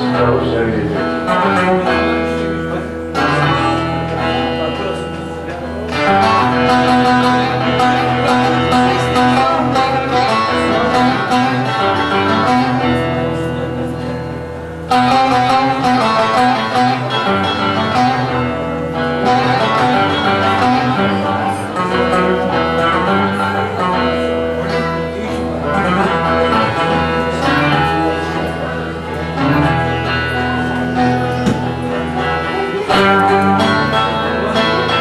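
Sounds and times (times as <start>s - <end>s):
long-necked lutes playing folk music: 0.0s - 35.0s.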